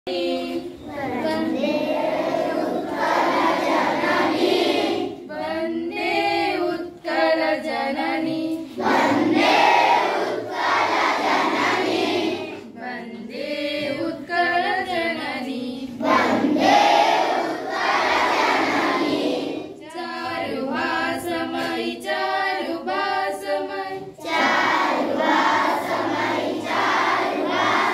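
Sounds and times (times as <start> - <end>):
children singing together: 0.1 - 27.9.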